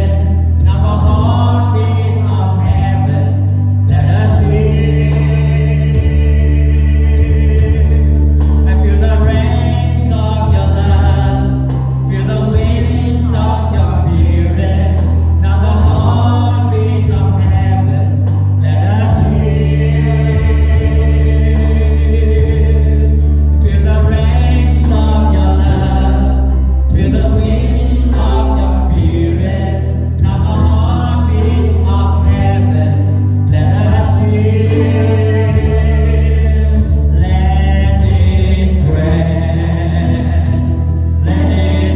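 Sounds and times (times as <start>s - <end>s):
group singing: 0.0s - 41.9s
sustained bass notes: 0.0s - 41.9s.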